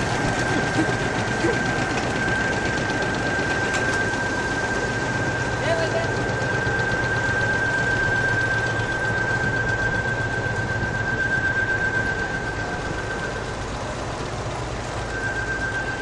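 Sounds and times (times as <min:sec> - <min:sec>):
high-pitched whine: 0:00.0 - 0:16.0
low hum: 0:00.0 - 0:16.0
machinery drone: 0:00.0 - 0:16.0.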